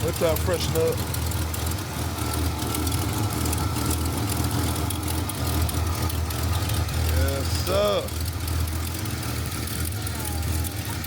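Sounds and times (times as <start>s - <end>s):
engine idling with popping exhaust: 0.0s - 11.0s.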